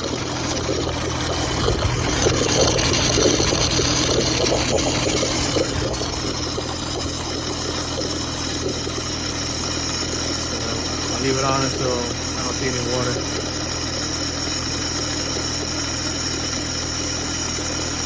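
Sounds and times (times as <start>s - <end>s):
pressure washer air hissing and sputtering: 0.0s - 18.0s
steady low hum: 0.0s - 18.0s.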